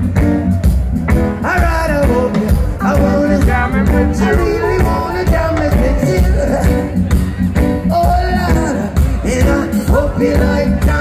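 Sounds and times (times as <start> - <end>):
drums: 0.0 - 11.0
electric bass: 0.0 - 11.0
keyboards: 0.0 - 11.0
man singing: 1.3 - 11.0.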